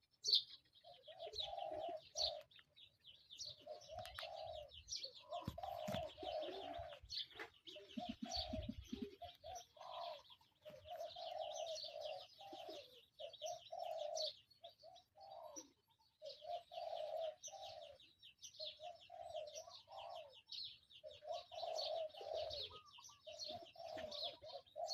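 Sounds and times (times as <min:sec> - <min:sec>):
doves cooing: 0:00.0 - 0:24.9
small birds chirping: 0:00.0 - 0:24.9.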